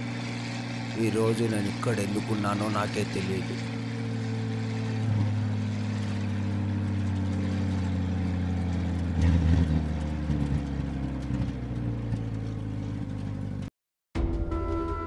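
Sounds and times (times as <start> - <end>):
jeep engine running: 0.0 - 13.7.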